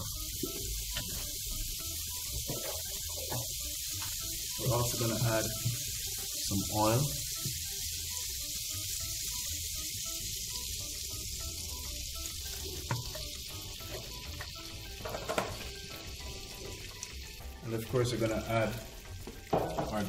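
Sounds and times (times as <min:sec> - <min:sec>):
butter sizzling in a frying pan: 0:00.0 - 0:20.0.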